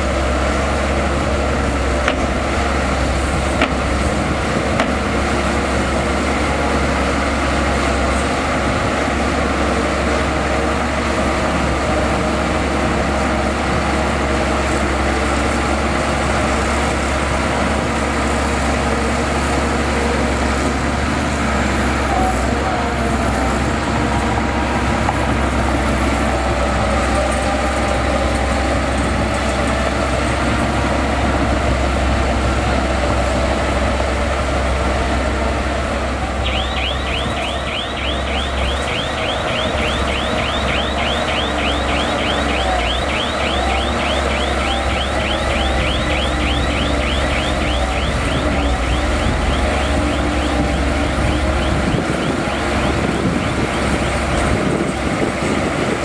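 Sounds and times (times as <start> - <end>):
bulldozer diesel engine running: 0.0 - 56.0
heavy machinery din: 0.0 - 56.0.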